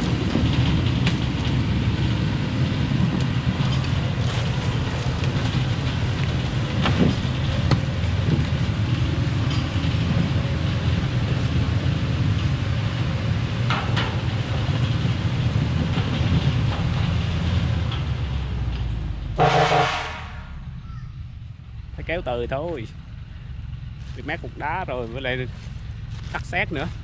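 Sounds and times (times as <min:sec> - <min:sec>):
truck diesel engine labouring: 0:00.0 - 0:27.0.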